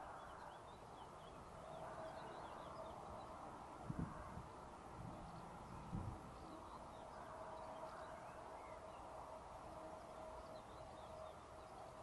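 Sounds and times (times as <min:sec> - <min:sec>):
distant locomotive hum and whine: 0:00.0 - 0:12.0
small birds chirping: 0:00.0 - 0:12.0.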